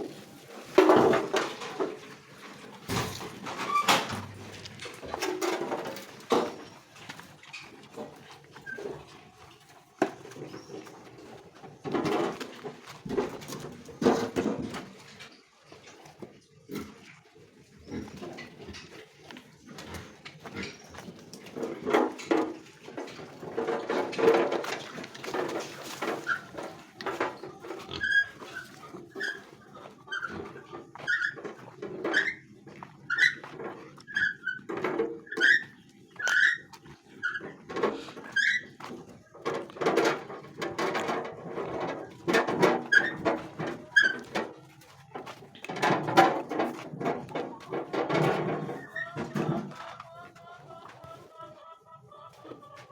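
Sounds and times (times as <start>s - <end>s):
rough farm animal calls: 0.0s - 52.9s.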